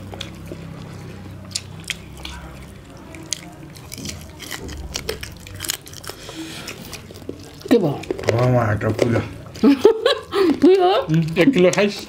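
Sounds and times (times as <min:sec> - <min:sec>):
low steady hum: 0:00.0 - 0:10.8
people biting and chewing food: 0:00.0 - 0:12.0.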